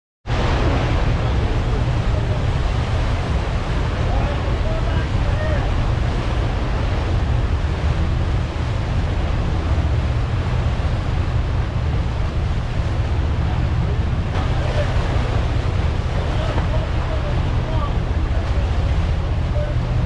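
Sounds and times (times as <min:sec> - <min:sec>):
boat wake churning: 0:00.2 - 0:20.0
boat engine drone: 0:00.3 - 0:20.0.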